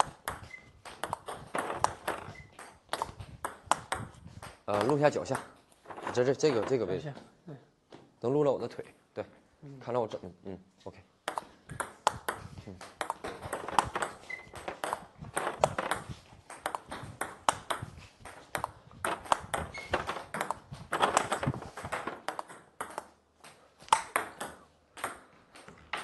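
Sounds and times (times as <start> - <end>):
table tennis balls clicking: 0.0 - 6.7, 11.2 - 26.0.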